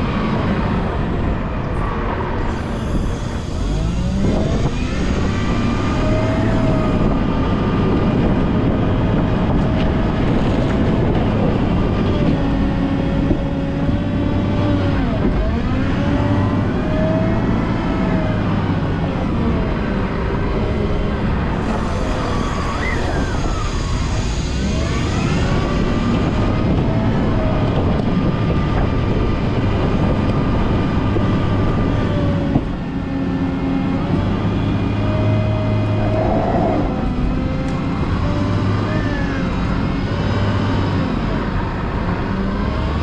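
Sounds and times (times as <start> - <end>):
wheel loader diesel engine: 0.0 - 43.0.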